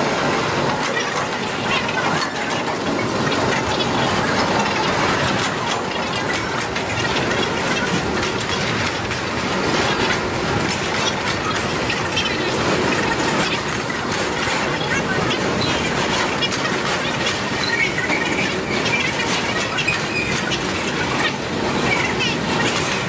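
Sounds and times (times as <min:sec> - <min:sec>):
train wheels rumbling and clattering: 0:00.0 - 0:23.0.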